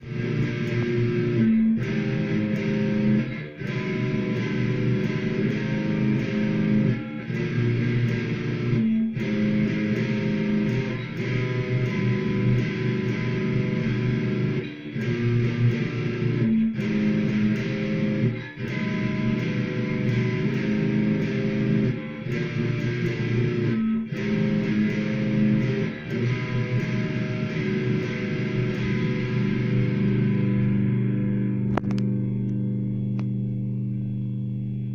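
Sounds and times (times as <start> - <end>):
electric guitar chords: 0.0 - 34.9.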